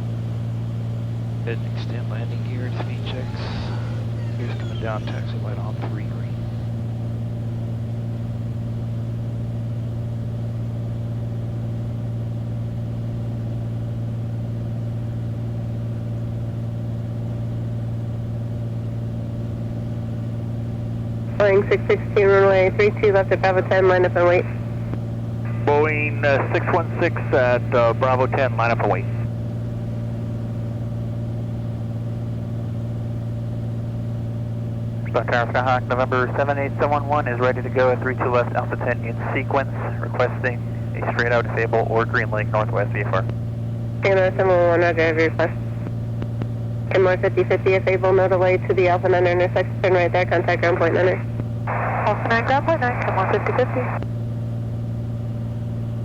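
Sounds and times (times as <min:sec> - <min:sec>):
piston engine and propeller droning: 0:00.0 - 0:56.0.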